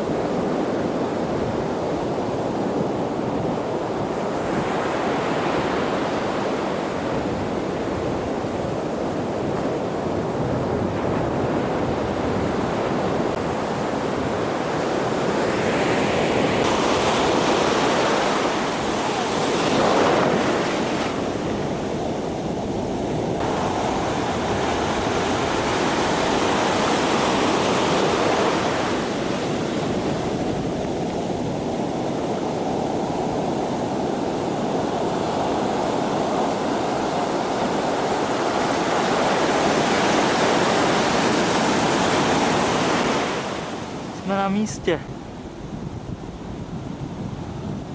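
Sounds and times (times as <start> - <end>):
ocean surf breaking: 0.0 - 47.7.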